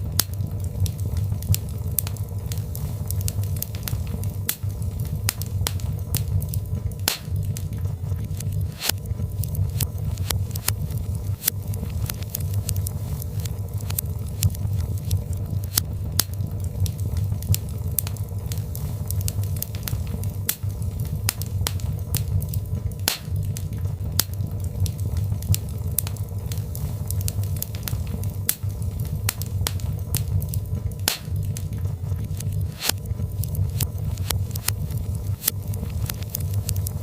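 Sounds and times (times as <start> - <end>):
burning logs popping: 0.0 - 37.0
fire crackling in a fireplace: 0.0 - 37.0.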